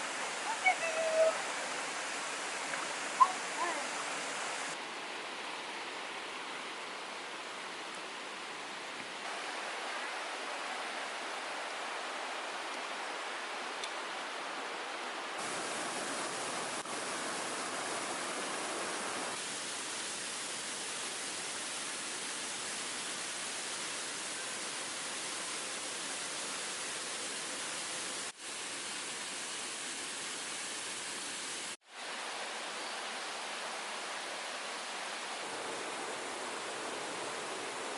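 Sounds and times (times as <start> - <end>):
water rushing over small waterfalls: 0.0 - 37.9.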